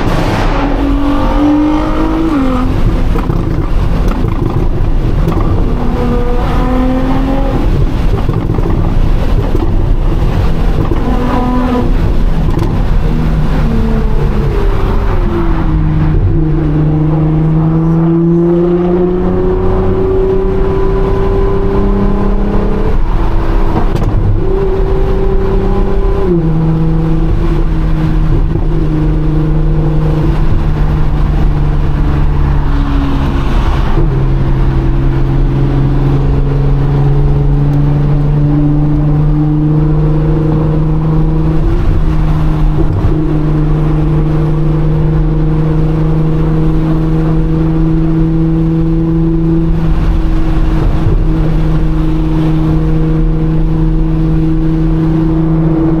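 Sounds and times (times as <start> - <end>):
car engine and exhaust drone: 0.0 - 56.0.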